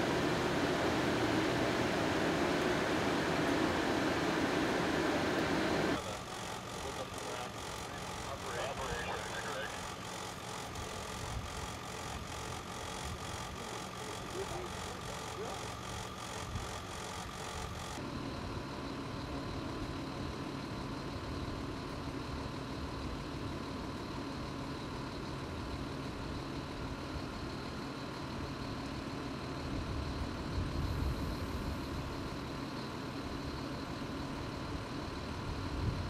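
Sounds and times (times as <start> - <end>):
heavy engine idling: 0.0 - 36.0.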